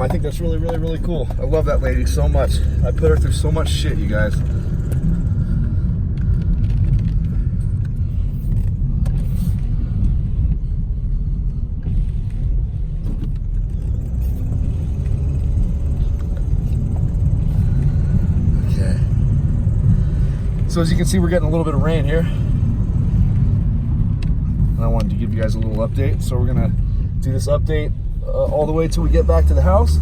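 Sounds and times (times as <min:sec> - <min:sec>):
car driving: 0:00.0 - 0:30.0.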